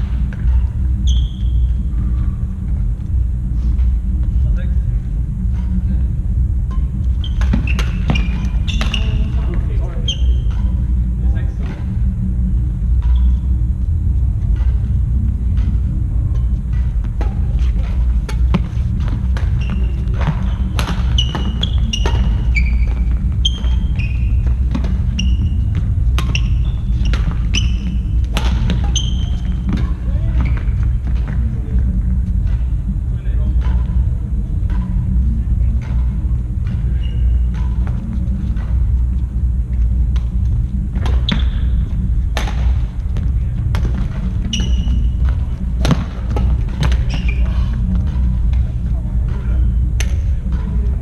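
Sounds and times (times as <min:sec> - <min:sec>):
low rumble: 0:00.0 - 0:51.0.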